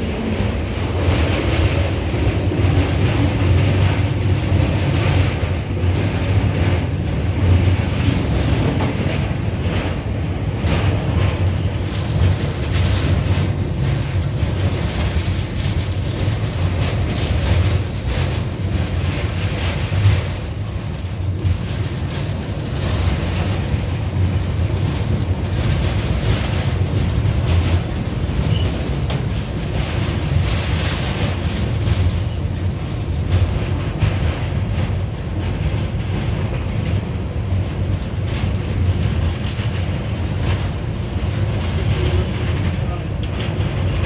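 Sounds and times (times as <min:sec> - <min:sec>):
train rumbling on track: 0:00.0 - 0:44.0
train wheels noise: 0:00.0 - 0:44.0.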